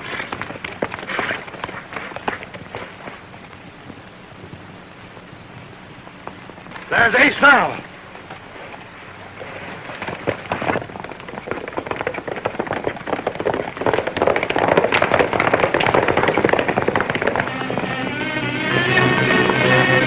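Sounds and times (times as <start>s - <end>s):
horses galloping: 0.0s - 20.0s.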